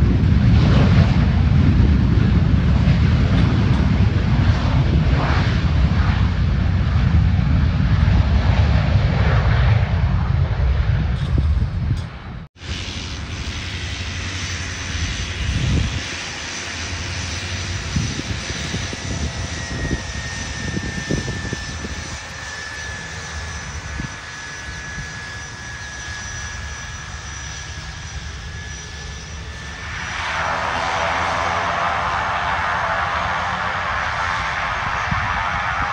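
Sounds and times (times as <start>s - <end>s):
high engine whine: 0.0s - 35.9s
turboprop engines running: 0.0s - 35.9s.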